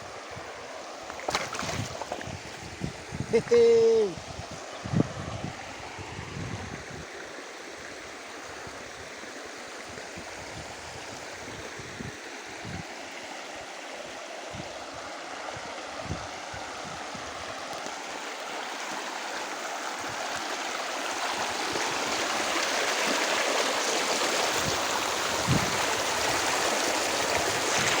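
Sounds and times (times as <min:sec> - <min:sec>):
rushing river water: 0:00.0 - 0:28.0.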